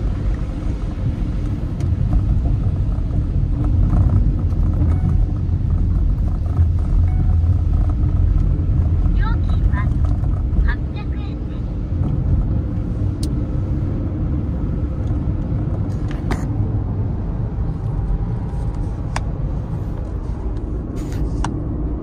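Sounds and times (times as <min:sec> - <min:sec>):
car road rumble inside cabin: 0:00.0 - 0:22.0.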